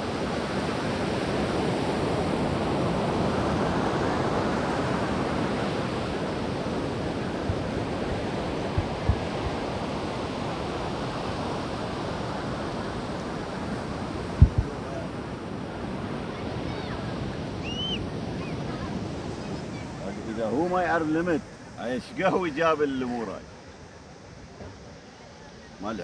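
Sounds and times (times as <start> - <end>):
wind buffeting microphone: 0.0 - 21.7
sea surf: 0.0 - 26.0
wind: 0.0 - 26.0.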